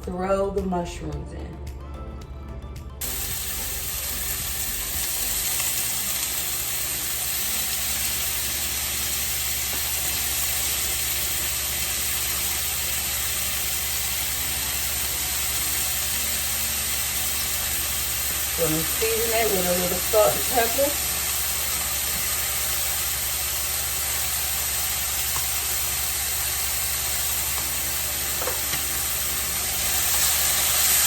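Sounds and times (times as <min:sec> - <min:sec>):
mushrooms sizzling in frying pan: 0:03.0 - 0:31.0.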